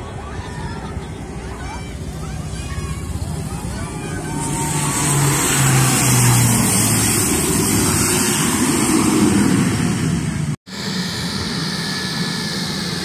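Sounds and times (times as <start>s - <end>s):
airplane engine rushing: 0.0s - 13.0s.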